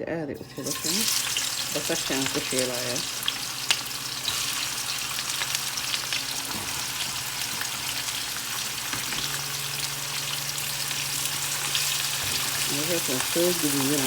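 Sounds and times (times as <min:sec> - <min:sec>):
onions sizzling in oil: 0:00.4 - 0:14.0.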